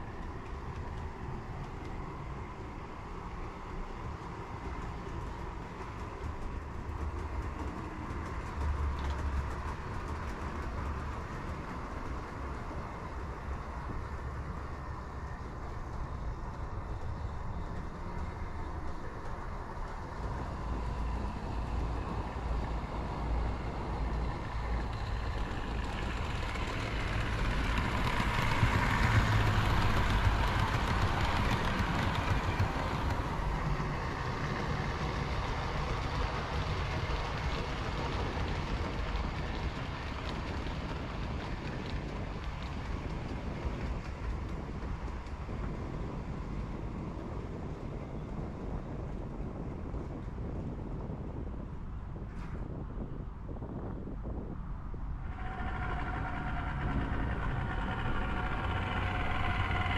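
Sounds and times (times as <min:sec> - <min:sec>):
model train rumbling on track: 0:00.0 - 0:59.9.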